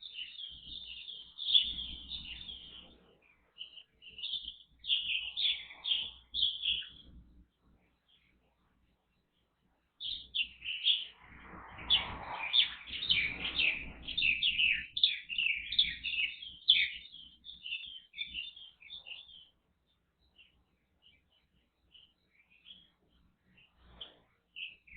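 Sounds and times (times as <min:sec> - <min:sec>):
birds chirping rapidly: 0:00.0 - 0:24.9.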